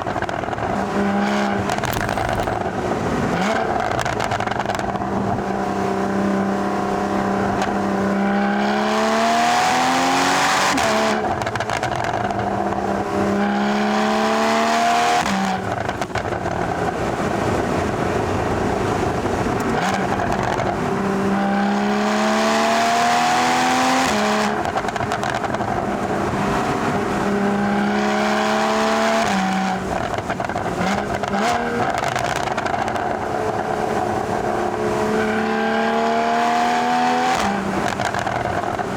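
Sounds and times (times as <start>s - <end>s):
road and wind rush: 0.0s - 38.9s.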